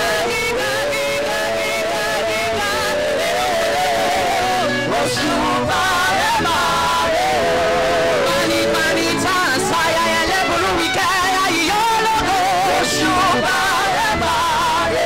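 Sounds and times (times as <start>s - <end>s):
backing music: 0.0s - 15.0s
gospel group singing: 0.0s - 15.0s.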